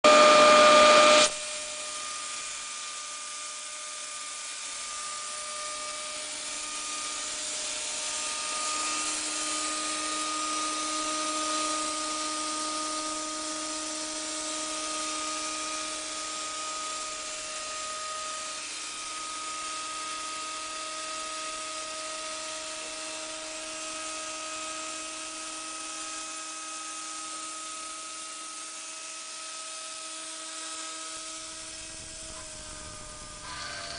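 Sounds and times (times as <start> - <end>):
cnc machine whine: 0.0 - 33.9.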